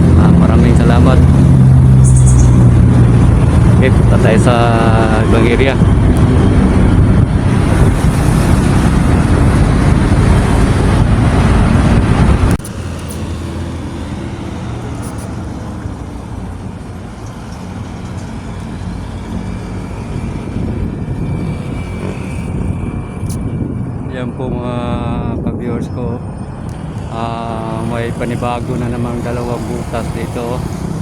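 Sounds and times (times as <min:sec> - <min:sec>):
engine and traffic hum: 0:00.0 - 0:31.0
road and wind noise: 0:00.0 - 0:31.0.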